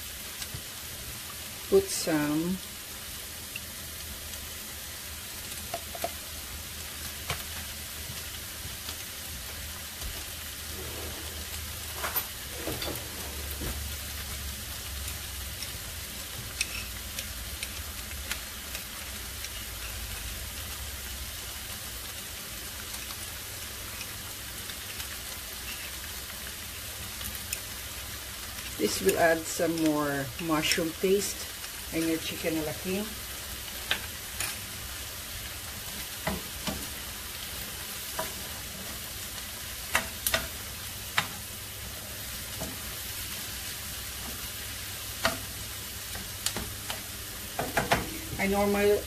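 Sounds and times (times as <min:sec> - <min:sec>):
vegetables sizzling in a frying pan: 0:00.0 - 0:49.0.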